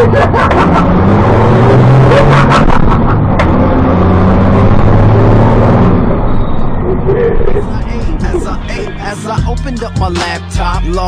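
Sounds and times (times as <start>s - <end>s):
bus diesel engine: 0.0s - 11.0s.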